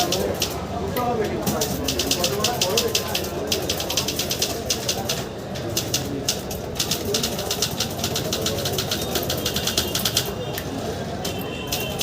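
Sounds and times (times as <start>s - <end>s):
typewriter keys clacking: 0.0s - 0.6s, 1.2s - 10.4s, 11.2s - 12.0s
murmur of background voices: 0.0s - 12.0s.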